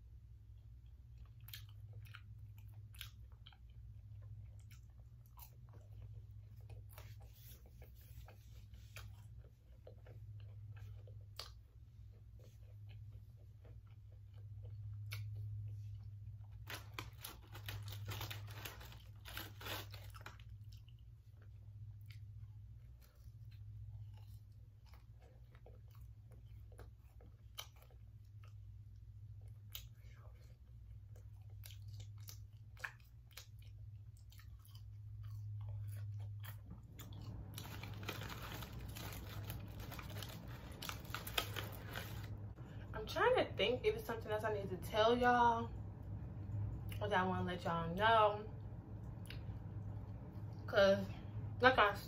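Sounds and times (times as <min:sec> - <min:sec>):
low steady hum: 0:00.0 - 0:52.0
crisp chewing crunches: 0:00.7 - 0:42.6.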